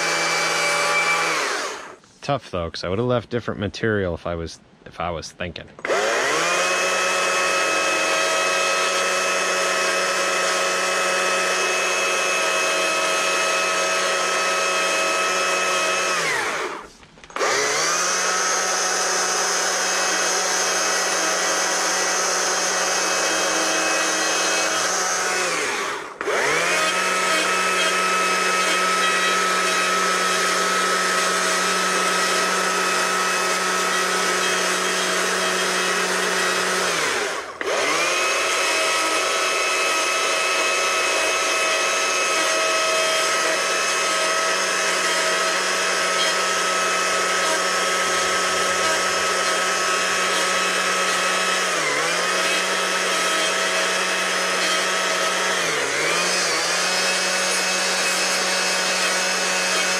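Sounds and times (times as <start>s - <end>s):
chainsaw cutting wood: 0.0s - 2.0s, 5.8s - 59.9s.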